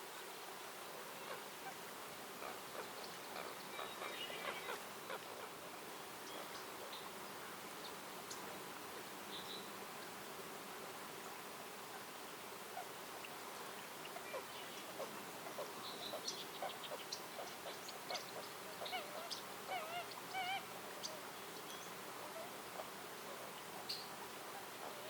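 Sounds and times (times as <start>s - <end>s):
faint forest ambience hiss: 0.0s - 25.0s.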